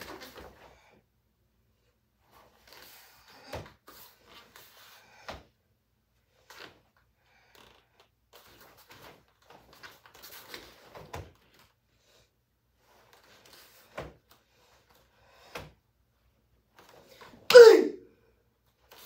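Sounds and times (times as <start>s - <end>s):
bare feet on foam mats: 0.0s - 1.0s, 1.8s - 17.9s, 18.6s - 19.0s.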